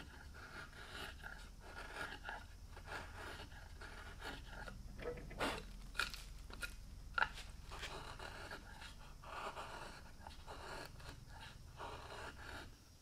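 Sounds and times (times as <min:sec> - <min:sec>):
carving tool scraping wood: 0:00.0 - 0:13.0.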